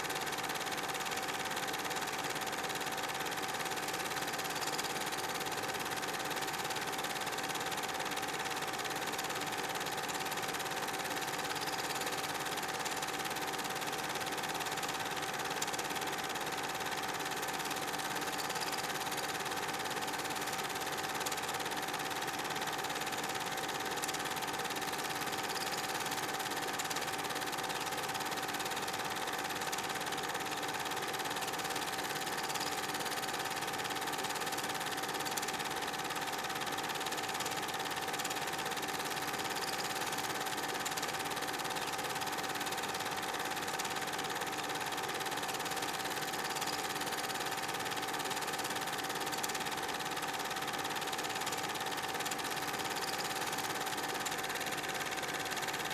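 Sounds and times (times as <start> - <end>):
film projector whirring: 0.0 - 55.9.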